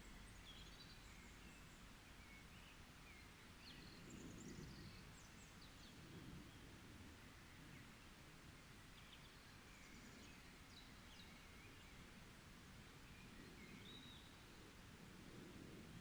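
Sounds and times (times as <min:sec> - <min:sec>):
distant songbirds chirping and trilling: 0:00.0 - 0:06.7, 0:07.4 - 0:15.1.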